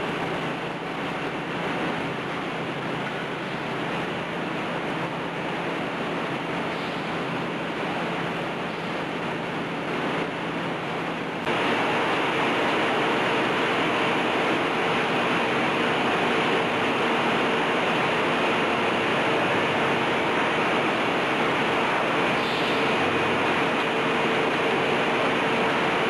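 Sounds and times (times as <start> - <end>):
machine and air noise: 0.0 - 26.0
steady hum: 0.0 - 26.0.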